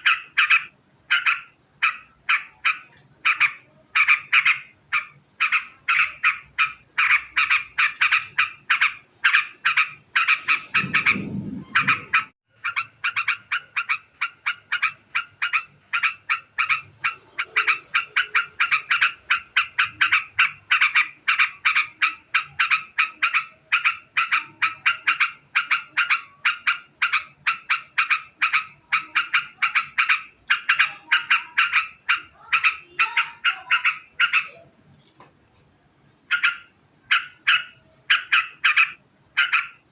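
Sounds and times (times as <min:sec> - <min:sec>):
bird chattering call: 0:00.0 - 0:34.6, 0:36.3 - 0:39.9.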